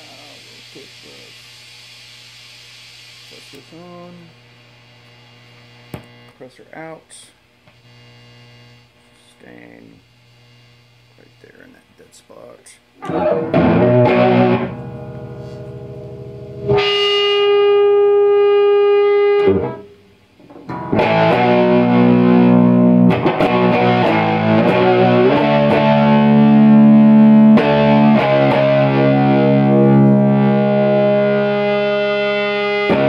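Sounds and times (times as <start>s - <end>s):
fuzzy distorted electric guitar: 0.0s - 33.0s.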